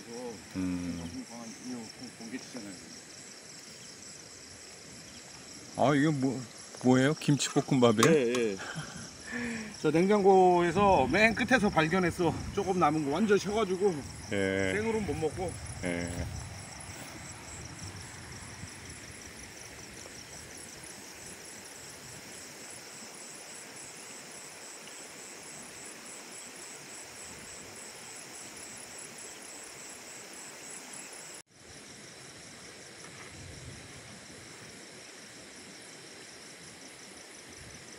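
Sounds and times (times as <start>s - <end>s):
insects chirping: 0.0s - 37.9s
steady hiss: 0.0s - 37.9s.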